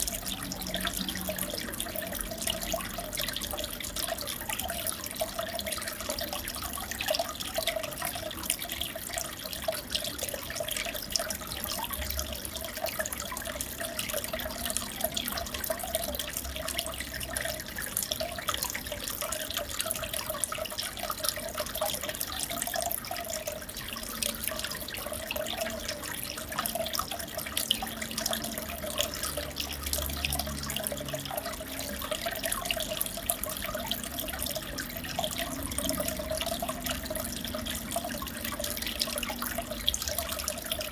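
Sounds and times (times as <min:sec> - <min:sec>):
aquarium water trickling and bubbling: 0:00.0 - 0:40.9.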